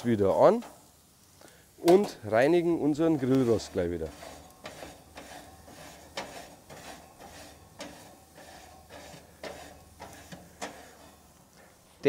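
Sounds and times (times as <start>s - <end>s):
grill grate being scraped: 0.0s - 1.2s, 1.8s - 12.0s.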